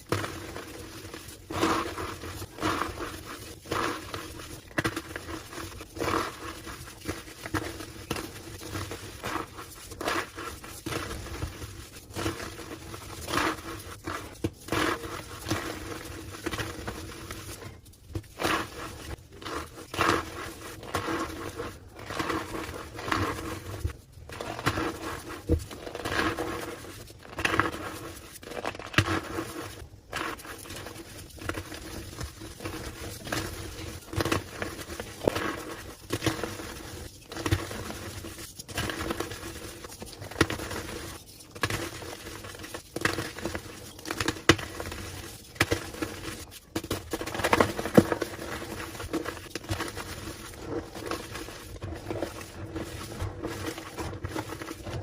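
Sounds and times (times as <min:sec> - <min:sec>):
chalk crushing and squeaking: 0:00.0 - 0:55.0.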